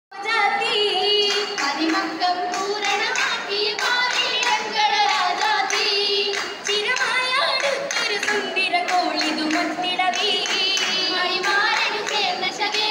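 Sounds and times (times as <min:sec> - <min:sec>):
girls singing in chorus: 0:00.2 - 0:12.9
rhythmic hand clapping: 0:00.6 - 0:12.9.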